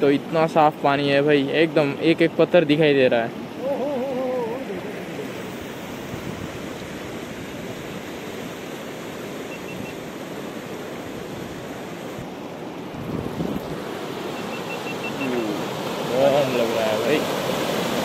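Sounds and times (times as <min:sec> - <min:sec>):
river rushing over stones: 0:00.3 - 0:18.0.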